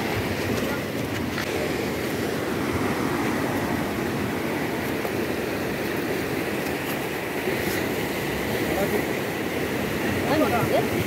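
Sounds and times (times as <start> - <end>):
sea surf breaking on shore: 0.0 - 11.0.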